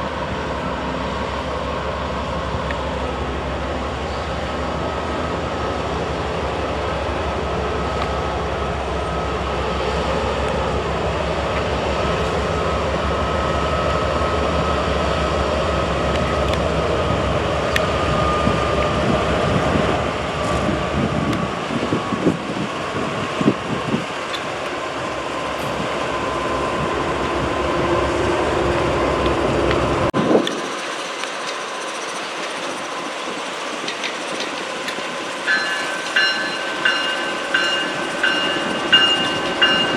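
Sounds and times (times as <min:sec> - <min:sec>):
rail cars rumbling: 0:00.0 - 0:39.9.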